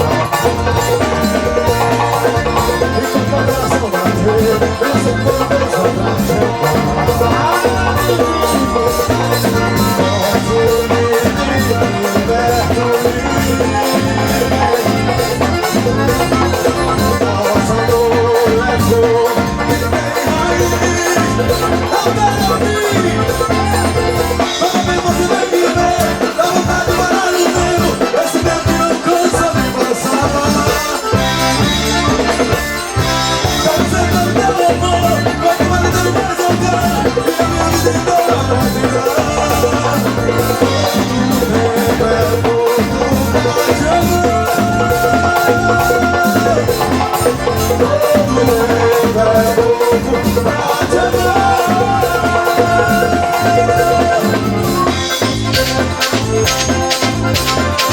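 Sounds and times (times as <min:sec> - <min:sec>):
accordion: 0:00.0 - 0:57.9
band music: 0:00.0 - 0:57.9
quick percussion beat: 0:00.0 - 0:57.9
repeating bass line: 0:00.0 - 0:57.9.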